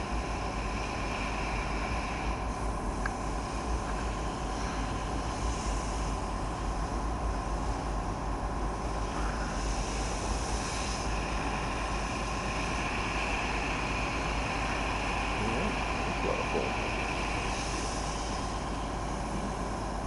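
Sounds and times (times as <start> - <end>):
fire engine pump droning: 0.0 - 20.0
foam spray hissing: 0.0 - 20.0.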